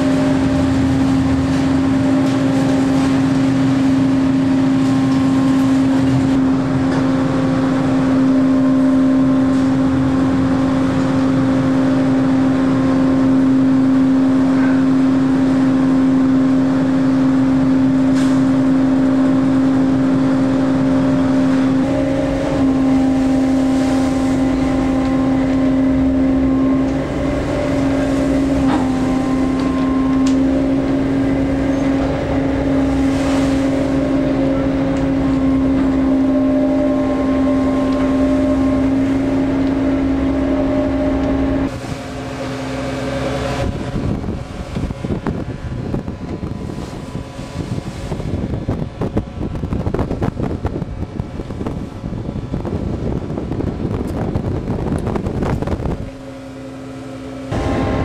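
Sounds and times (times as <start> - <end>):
boat engine drone: 0.0 - 58.0
deeper rumble: 0.0 - 58.0
wind and sea rushing: 0.0 - 58.0.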